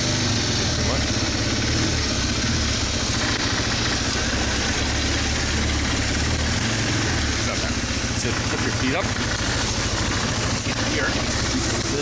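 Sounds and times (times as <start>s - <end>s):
atv engine rumbling: 0.0s - 12.0s.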